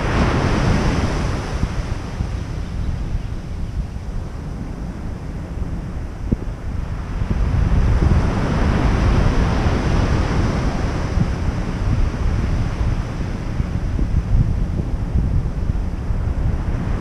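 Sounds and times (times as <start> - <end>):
ocean surf breaking on beach: 0.0 - 17.0
wind rumble on microphone: 0.0 - 17.0.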